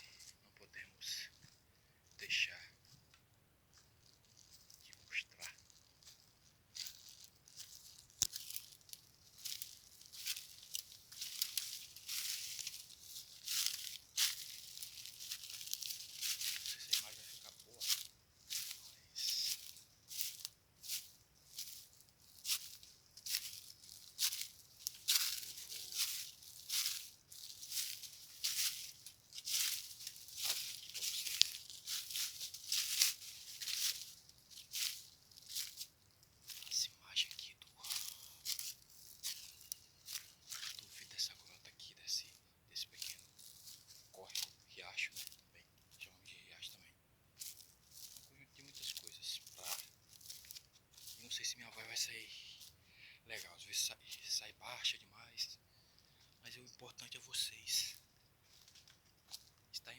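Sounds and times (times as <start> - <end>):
footsteps crunching dry leaves: 0.1 - 3.0, 3.7 - 59.9.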